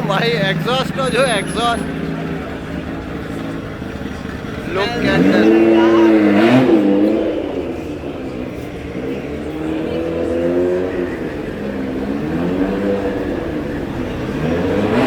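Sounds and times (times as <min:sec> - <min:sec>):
car engine revving: 0:01.3 - 0:15.0.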